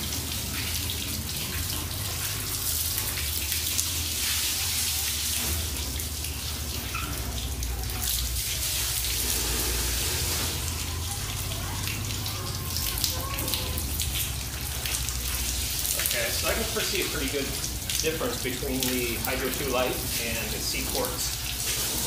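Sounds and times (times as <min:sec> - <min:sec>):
water pouring from hose onto car: 0:00.0 - 0:22.0.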